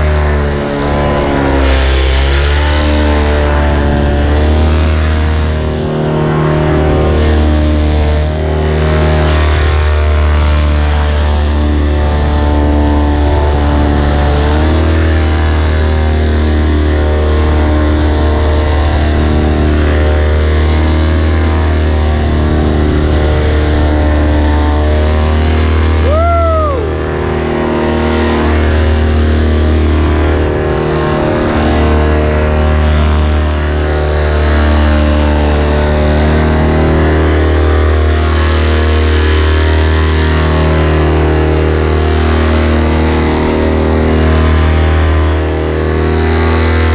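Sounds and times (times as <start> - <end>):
paramotor engine and propeller: 0.0 - 46.9.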